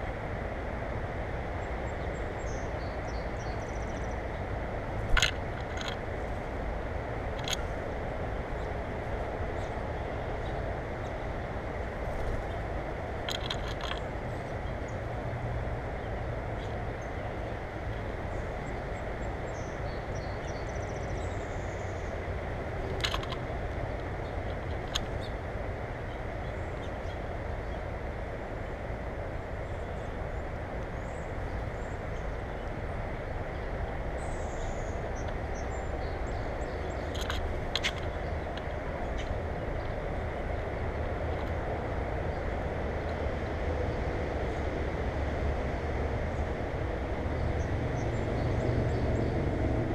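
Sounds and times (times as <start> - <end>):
steady background noise: 0.0 - 49.9.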